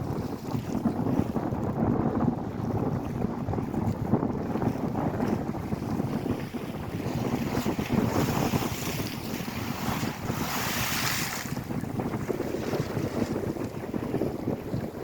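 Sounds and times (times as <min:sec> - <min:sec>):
wind buffeting microphone: 0:00.0 - 0:15.0
waves washing on shore: 0:02.4 - 0:15.0.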